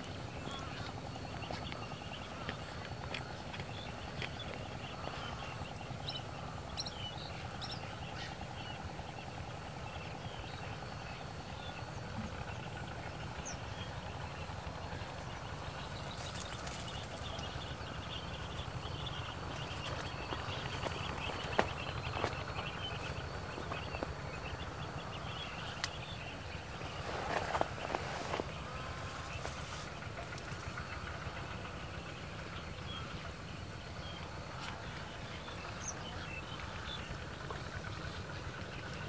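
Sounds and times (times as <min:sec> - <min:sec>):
low rumble and hum: 0:00.0 - 0:39.0.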